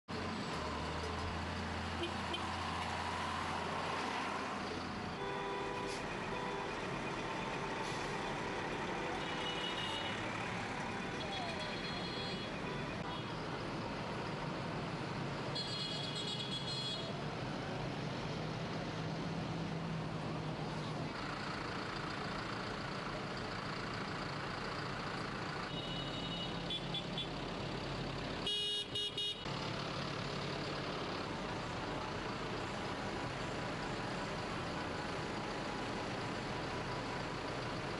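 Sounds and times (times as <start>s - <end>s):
tractor diesel engines running: 0.1s - 37.9s.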